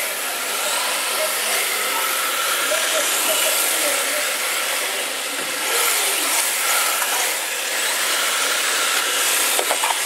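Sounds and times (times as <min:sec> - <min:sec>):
rc cars hissing on floor: 0:00.0 - 0:10.0.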